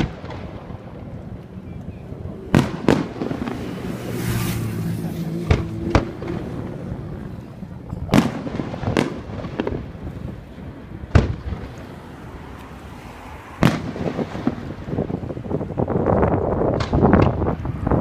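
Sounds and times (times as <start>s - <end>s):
fireworks booming: 0.0s - 12.3s, 13.4s - 18.0s
fireworks pops and crackles: 0.0s - 12.8s, 13.6s - 15.8s, 16.4s - 18.0s.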